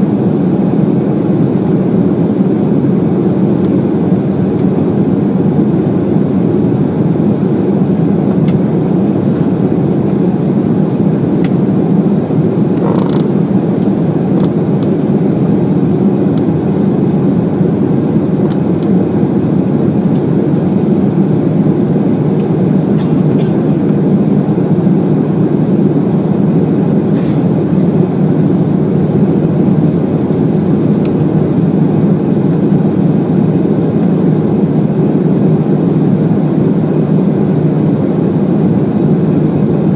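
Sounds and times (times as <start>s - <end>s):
airflow over fuselage: 0.0s - 39.9s
jet engines rumbling in cabin: 0.0s - 39.9s.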